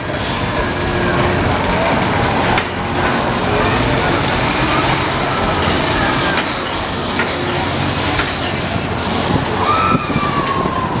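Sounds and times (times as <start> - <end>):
carnival ride mechanical din: 0.0 - 11.0
ride cars clanking: 0.0 - 11.0.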